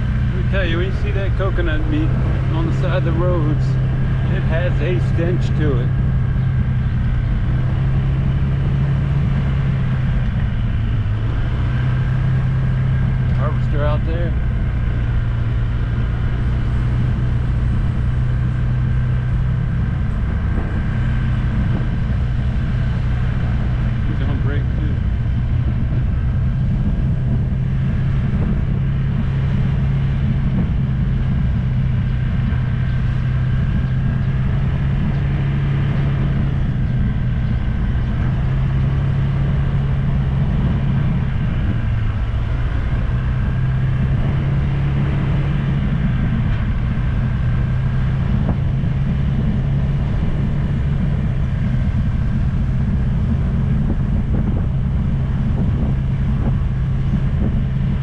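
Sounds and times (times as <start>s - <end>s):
motor scooter engine humming: 0.0s - 58.0s
road noise: 0.0s - 58.0s.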